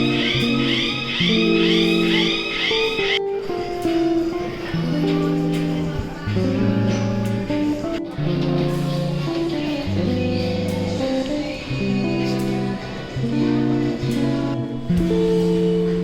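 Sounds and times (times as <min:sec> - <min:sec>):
guitar-led song: 0:00.0 - 0:16.0.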